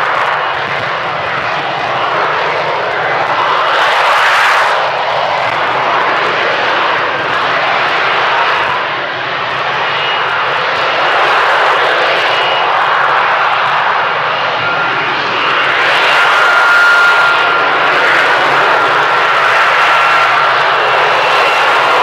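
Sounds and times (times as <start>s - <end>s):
high-pitched whine: 0.0s - 22.0s
loud jet engine roar: 0.0s - 22.0s.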